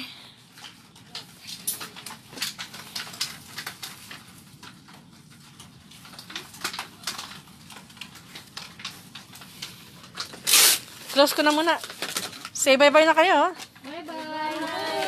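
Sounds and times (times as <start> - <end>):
plastic bags crinkling: 0.5 - 15.0.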